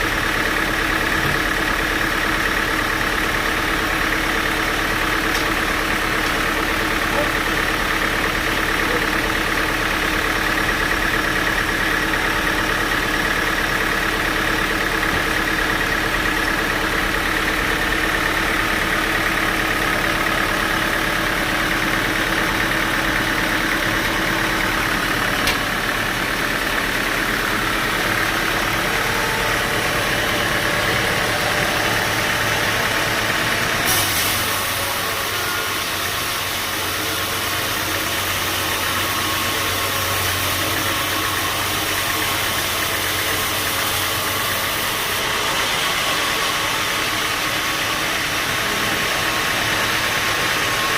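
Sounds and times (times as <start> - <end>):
sawmill machine drone: 0.0 - 50.9.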